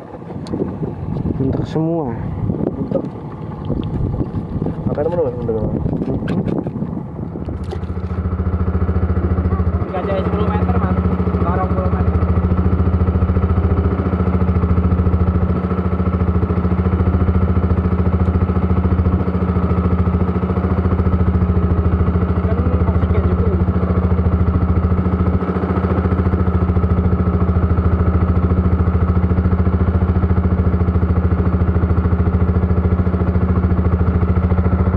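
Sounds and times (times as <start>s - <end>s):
boat engine running steadily: 0.0s - 34.9s.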